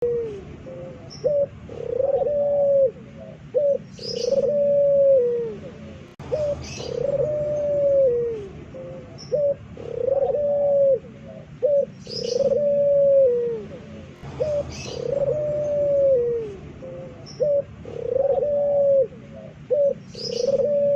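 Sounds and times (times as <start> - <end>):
dove cooing: 0.0 - 20.9.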